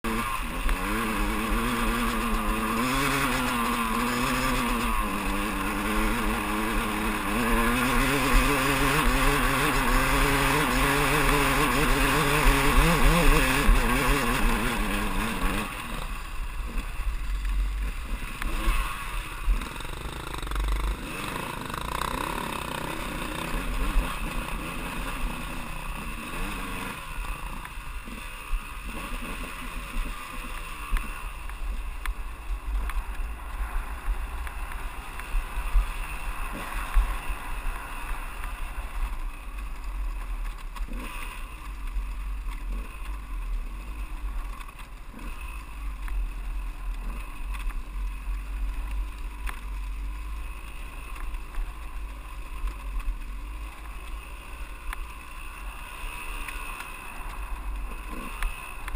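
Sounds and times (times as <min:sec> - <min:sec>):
dirt bike engine revving: 0:00.0 - 0:31.7, 0:40.8 - 0:58.9.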